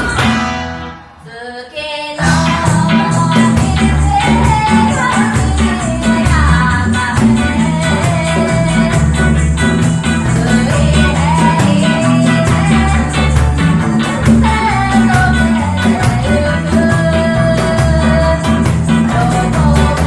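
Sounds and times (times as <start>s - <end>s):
heavy bass: 0.0s - 1.2s, 2.2s - 20.0s
live band playing: 0.0s - 1.2s, 2.2s - 20.0s
lead vocal singing: 1.1s - 20.0s
steady drum beat: 2.2s - 20.0s.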